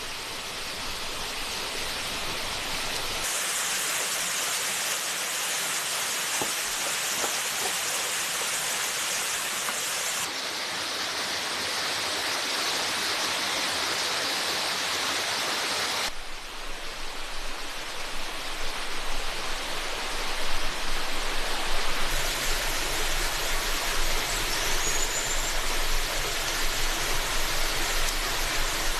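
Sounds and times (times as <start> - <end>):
forest stream rushing: 0.0 - 28.9.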